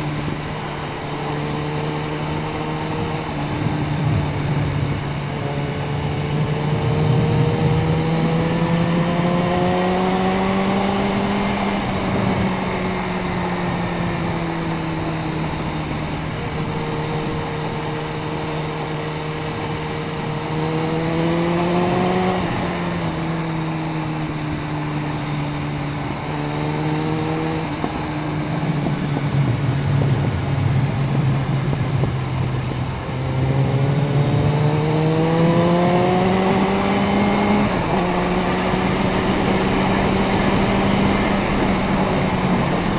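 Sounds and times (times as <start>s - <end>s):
motorcycle engine revving: 0.0s - 42.9s
wind noise on microphone: 0.0s - 42.9s.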